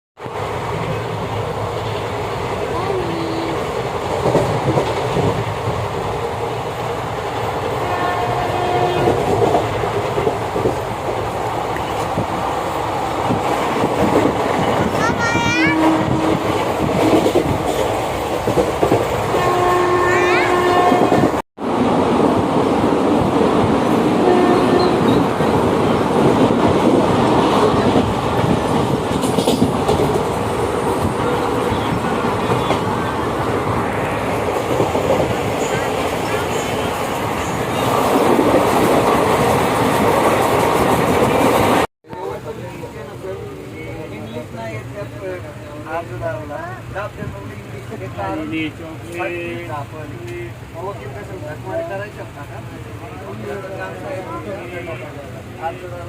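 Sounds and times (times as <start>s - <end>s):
train carriage rumbling on rails: 0.2s - 56.0s.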